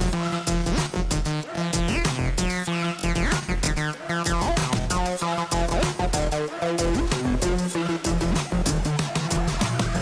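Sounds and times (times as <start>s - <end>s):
electronic music with driving beat: 0.0s - 10.0s.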